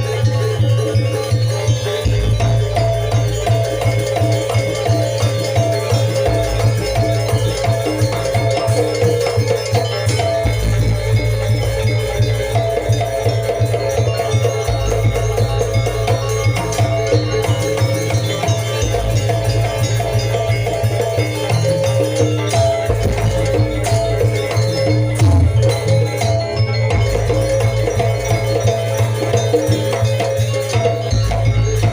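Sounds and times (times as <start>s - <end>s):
busy percussion: 0.0s - 31.9s
metallic percussion ensemble music: 0.0s - 31.9s.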